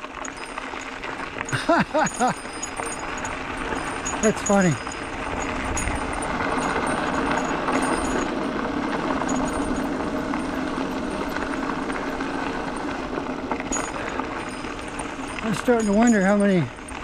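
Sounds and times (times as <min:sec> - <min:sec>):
bike ticking and rattling: 0:00.0 - 0:17.0
bike tyres rolling on gravel: 0:00.0 - 0:17.0.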